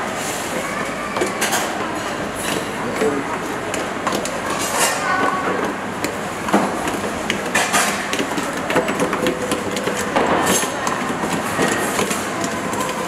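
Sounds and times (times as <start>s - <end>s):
kitchen background noise: 0.0s - 13.0s
plastic containers clattering: 1.4s - 13.0s.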